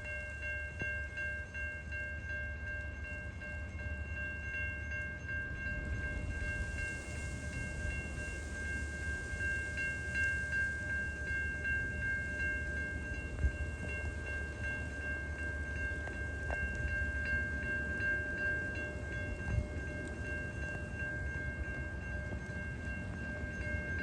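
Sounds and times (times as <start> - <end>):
freight train rumble: 0.0 - 24.0
high pulsing ringing tone: 0.0 - 24.0.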